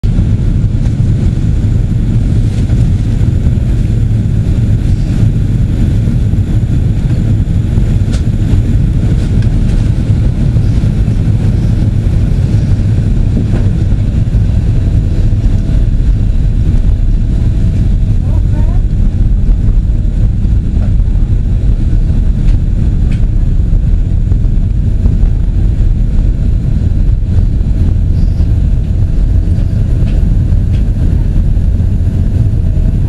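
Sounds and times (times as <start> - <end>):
airplane engines rumbling: 0.0 - 33.0.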